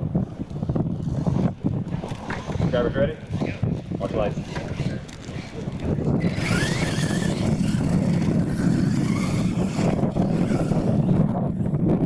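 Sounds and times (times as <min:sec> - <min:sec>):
electric motors whining: 0:01.0 - 0:11.8.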